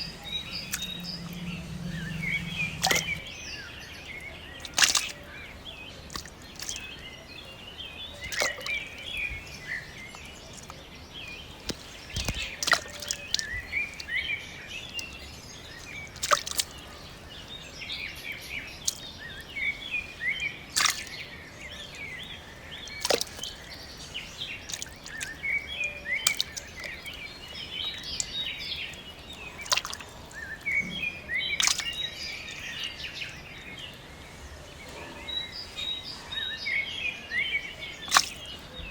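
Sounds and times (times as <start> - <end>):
birds chirping and twittering: 0.0 - 38.9.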